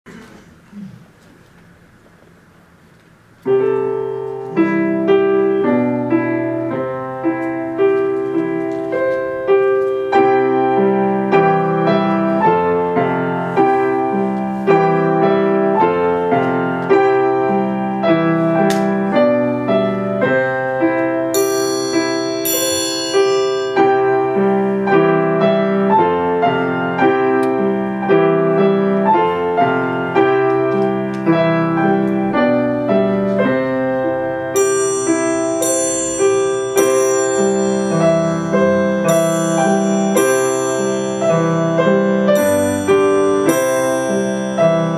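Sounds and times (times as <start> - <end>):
piano playing a carol: 3.4 - 44.9
high ringing piano notes: 3.5 - 44.9.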